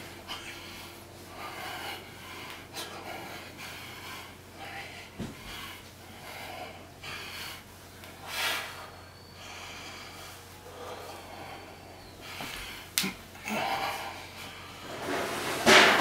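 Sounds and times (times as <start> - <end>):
man breathing heavily: 0.0 - 15.2.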